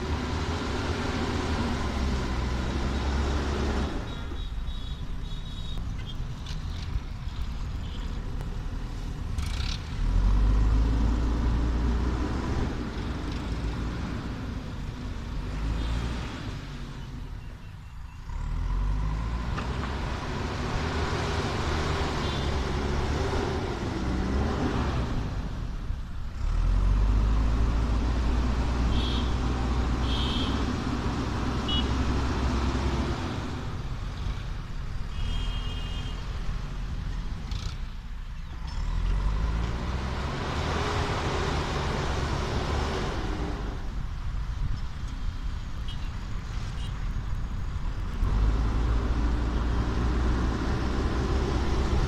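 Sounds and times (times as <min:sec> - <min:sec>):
diesel engine revving: 0:00.0 - 0:04.4, 0:08.5 - 0:17.4, 0:18.2 - 0:38.0, 0:38.6 - 0:44.5, 0:47.7 - 0:52.0.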